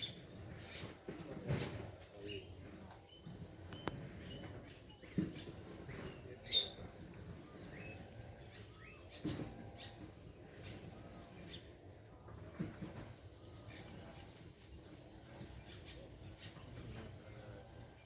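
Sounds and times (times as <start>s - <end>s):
outdoor background noise: 0.0s - 18.0s
birds chirping: 1.8s - 12.5s, 13.1s - 18.0s.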